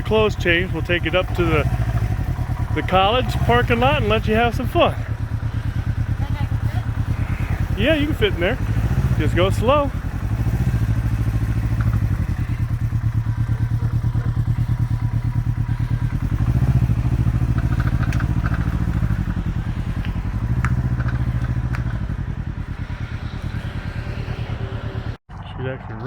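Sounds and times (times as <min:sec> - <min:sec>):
motorcycle engine running slowly: 0:00.0 - 0:26.0.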